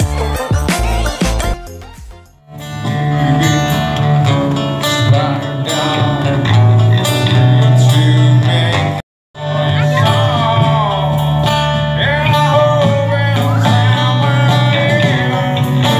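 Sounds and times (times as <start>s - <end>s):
deep bass notes: 0.0s - 15.9s
music: 0.0s - 15.9s
strummed acoustic guitars: 0.0s - 15.9s.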